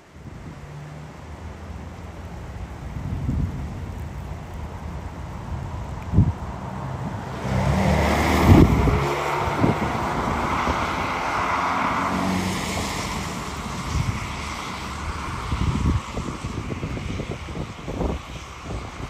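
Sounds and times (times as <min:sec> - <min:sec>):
wind buffeting microphone: 0:00.1 - 0:00.8, 0:02.0 - 0:19.0.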